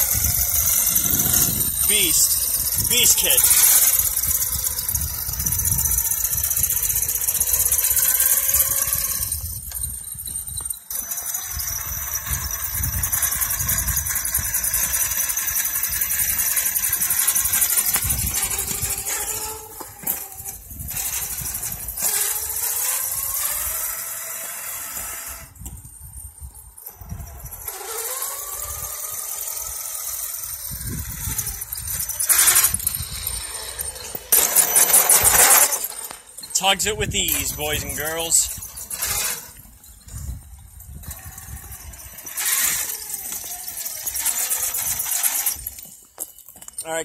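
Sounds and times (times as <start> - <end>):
electric motor whining: 0.0 - 25.8, 26.9 - 45.9
gear and tyre noise on asphalt: 0.0 - 36.6, 38.3 - 46.8.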